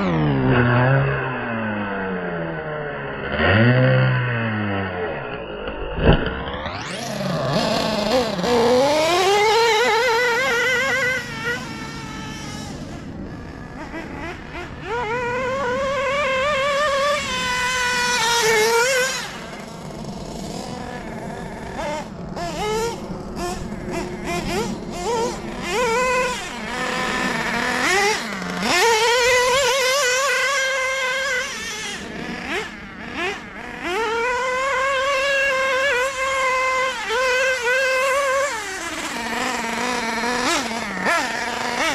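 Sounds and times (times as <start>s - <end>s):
model engine high-pitched whine: 0.0s - 41.9s.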